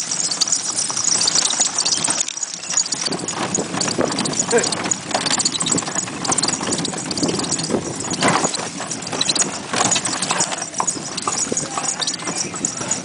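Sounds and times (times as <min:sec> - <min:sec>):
cart and harness rattling: 0:00.0 - 0:13.0
hooves clip-clopping on dirt: 0:00.0 - 0:13.0.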